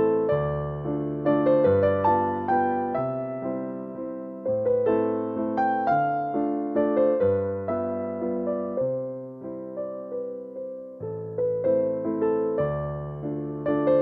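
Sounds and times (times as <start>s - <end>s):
slow gentle piano melody: 0.0s - 14.0s.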